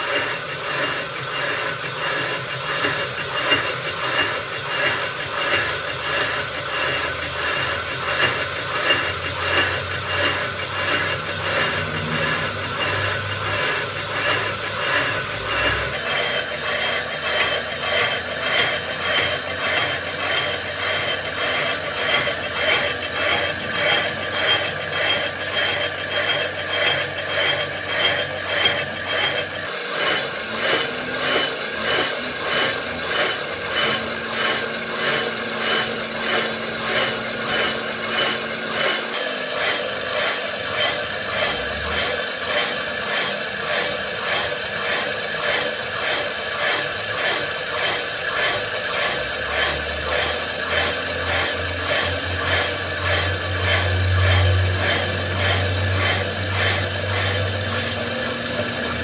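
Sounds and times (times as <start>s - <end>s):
pulsing rasping grinding machine: 0.0s - 59.0s.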